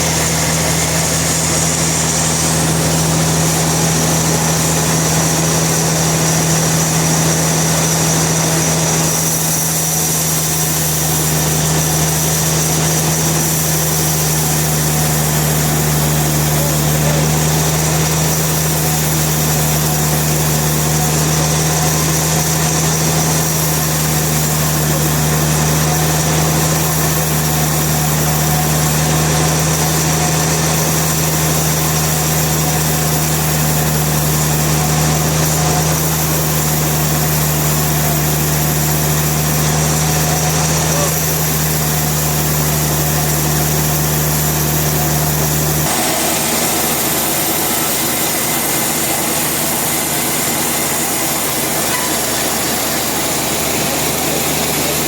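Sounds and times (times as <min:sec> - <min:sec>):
high machine whine: 0:00.0 - 0:55.0
sawmill motor hum: 0:00.0 - 0:55.0.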